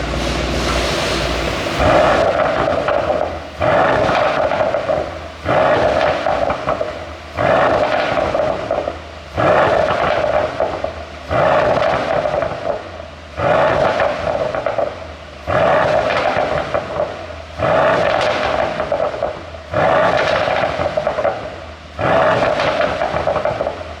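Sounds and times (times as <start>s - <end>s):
car engine revving: 0.6s - 24.0s
exhaust pops and crackles: 1.8s - 24.0s.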